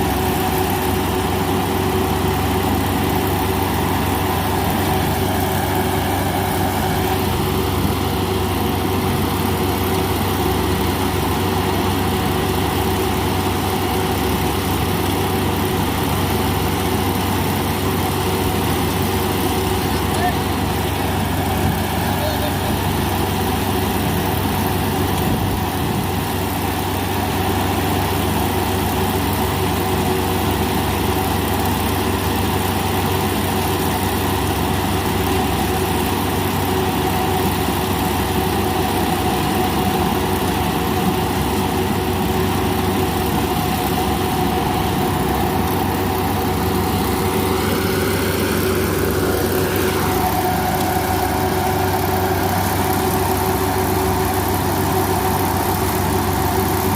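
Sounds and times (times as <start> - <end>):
harvester engine running: 0.0 - 56.9.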